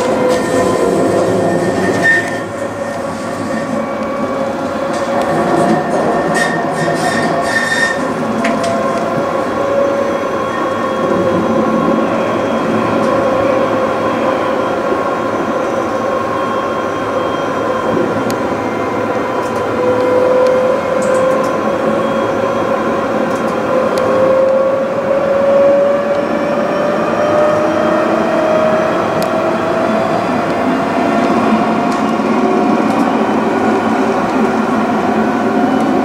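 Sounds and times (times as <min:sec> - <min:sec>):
tram wheels rumbling on rails: 0:00.0 - 0:36.0.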